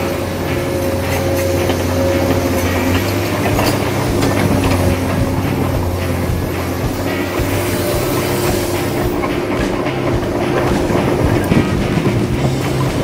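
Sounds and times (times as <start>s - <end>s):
electric motors whining: 0.0s - 13.0s
tracks clattering: 0.0s - 13.0s.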